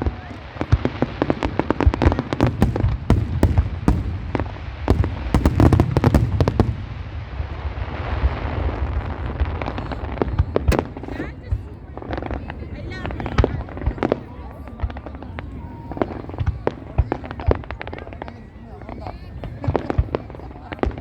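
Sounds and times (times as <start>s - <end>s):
fireworks bangs and pops: 0.0s - 21.0s
fireworks hissing crackle: 0.0s - 21.0s.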